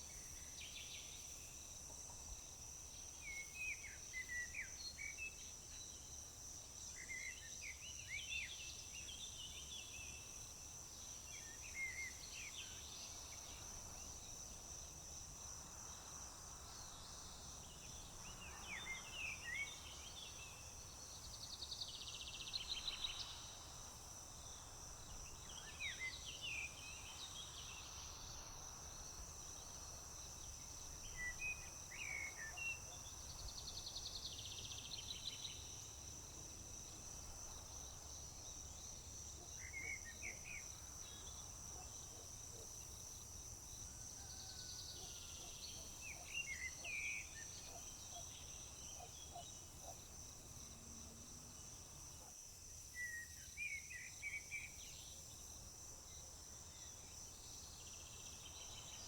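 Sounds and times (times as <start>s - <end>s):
crickets trilling: 10.7s - 59.0s.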